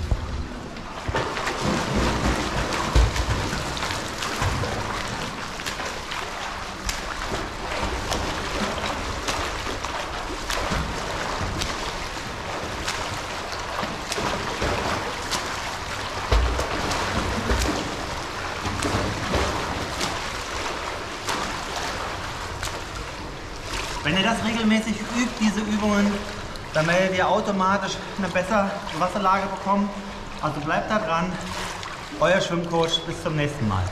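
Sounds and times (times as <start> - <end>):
swimmer splashing in pool: 0.0 - 33.1.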